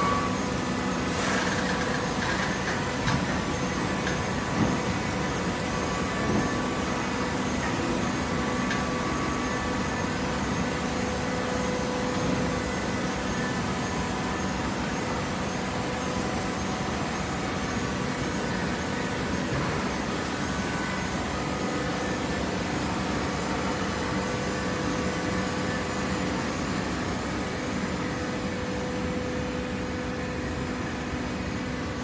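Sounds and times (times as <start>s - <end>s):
baler mechanical hum: 0.0s - 32.0s.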